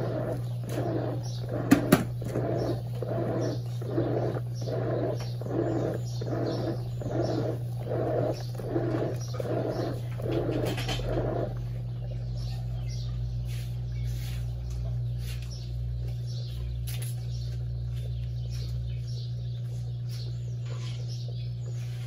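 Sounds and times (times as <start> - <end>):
washing machine agitating: 0.0 - 22.0.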